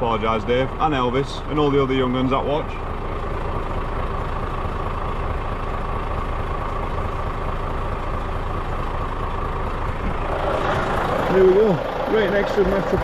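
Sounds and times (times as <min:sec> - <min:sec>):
diesel lorry engine idling: 0:00.0 - 0:13.0.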